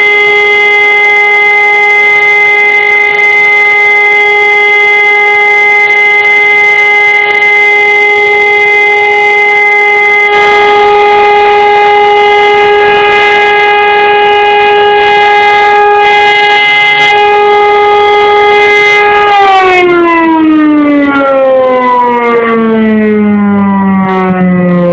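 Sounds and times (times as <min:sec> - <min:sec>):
civil defense siren steady tone: 0:00.0 - 0:24.9.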